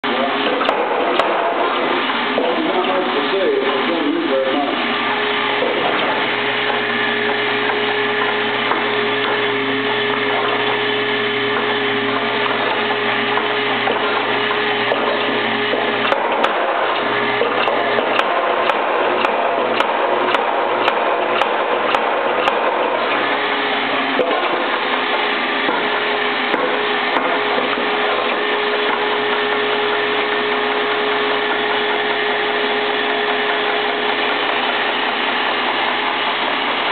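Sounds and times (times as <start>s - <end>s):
power hammer drive whirring: 0.0s - 36.9s.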